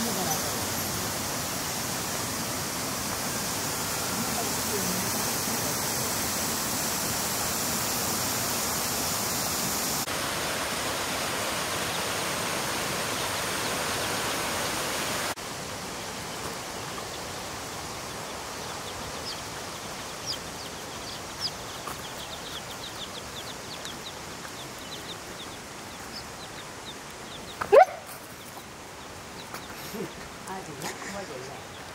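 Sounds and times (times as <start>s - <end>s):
small birds chirping: 0.0s - 9.7s, 11.7s - 31.9s.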